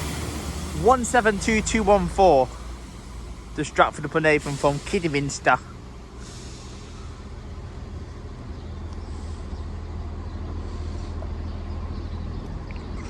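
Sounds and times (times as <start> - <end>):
train engines low rumble: 0.0 - 13.0.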